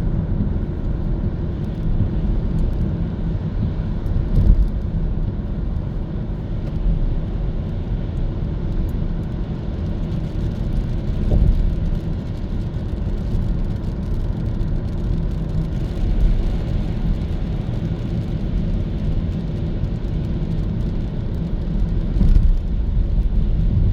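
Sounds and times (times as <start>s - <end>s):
tyre road rumble: 0.0s - 23.9s.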